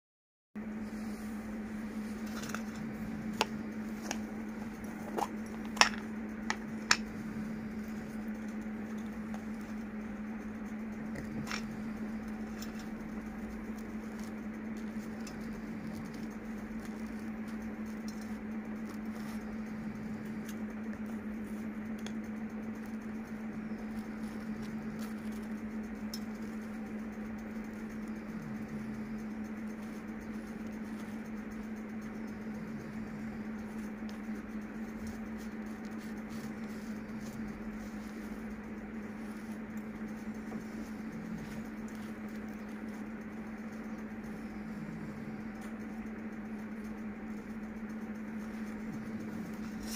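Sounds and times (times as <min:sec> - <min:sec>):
steady low hum: 0:00.6 - 0:49.9.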